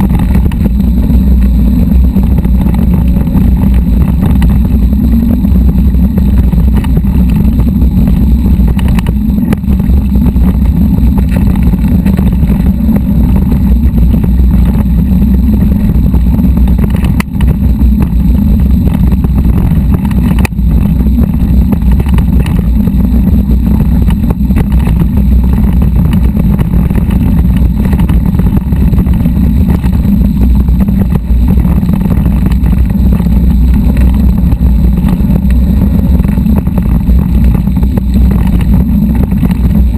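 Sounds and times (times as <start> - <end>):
bike rattling over rocky trail: 0.0 - 39.9
wind buffeting microphone: 0.0 - 39.9.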